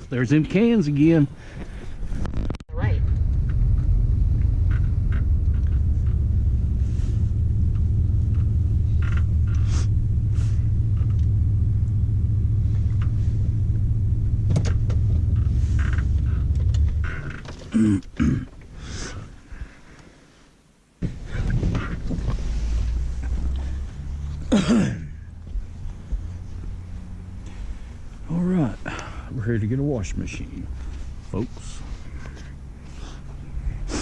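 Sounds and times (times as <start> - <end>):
vehicle rumble from inside cab: 2.5 - 19.3, 21.1 - 34.0.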